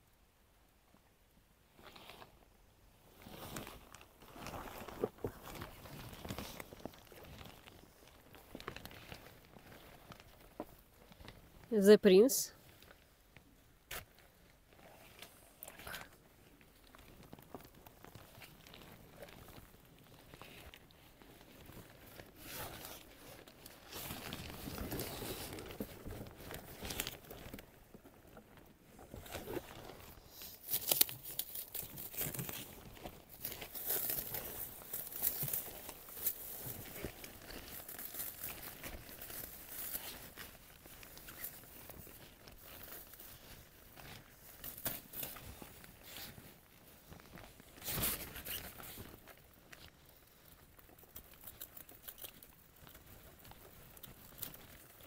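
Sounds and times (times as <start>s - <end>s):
packaging crumpling and tearing: 3.3s - 11.4s, 14.0s - 55.0s.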